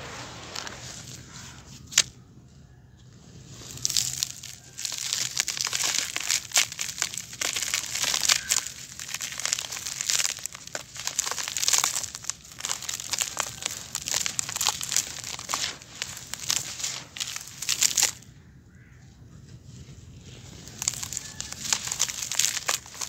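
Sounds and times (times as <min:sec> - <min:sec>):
dirt crumbling by hand: 0:00.0 - 0:23.0.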